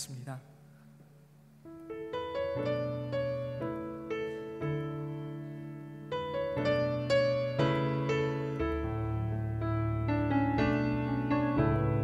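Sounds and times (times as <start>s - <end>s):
piano broken chords: 1.5s - 12.0s.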